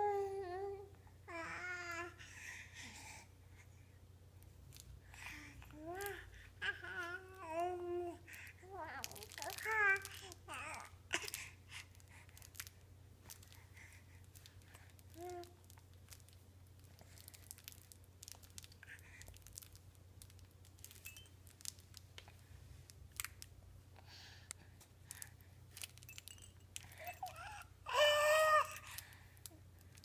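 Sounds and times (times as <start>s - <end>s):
small clicks and rustles: 4.4s - 23.6s, 24.4s - 30.0s.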